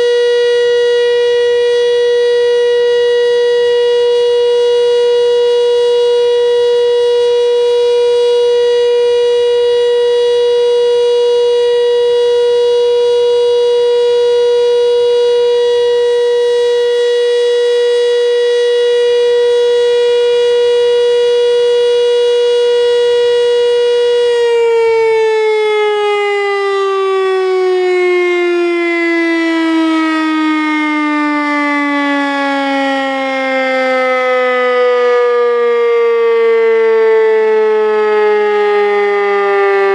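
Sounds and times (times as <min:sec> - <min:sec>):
siren steady tone: 0:00.0 - 0:39.9.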